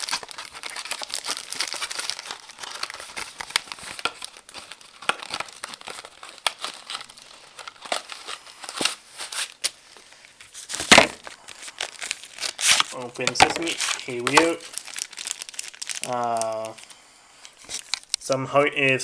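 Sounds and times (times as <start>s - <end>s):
packaging crinkling and rustling: 0.0s - 18.3s.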